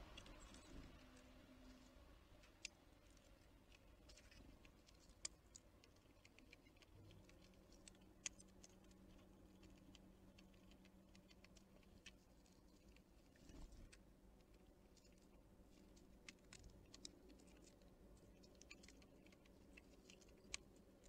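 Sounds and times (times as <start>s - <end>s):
small animals pecking seeds: 0.0s - 21.0s.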